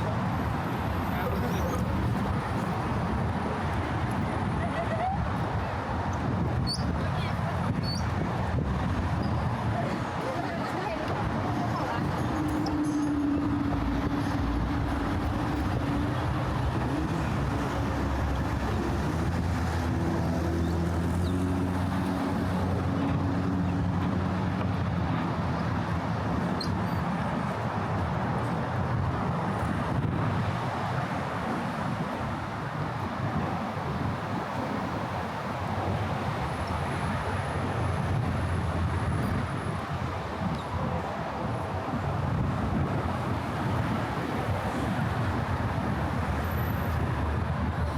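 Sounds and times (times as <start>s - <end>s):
traffic noise: 0.0s - 47.9s.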